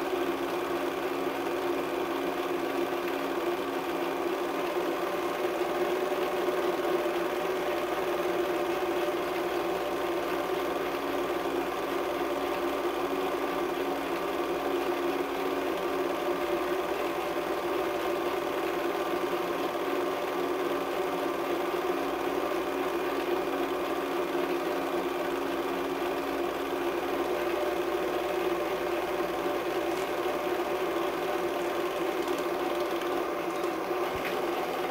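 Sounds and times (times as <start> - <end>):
film projector whirring: 0.0 - 34.9
projector hum: 0.0 - 34.9.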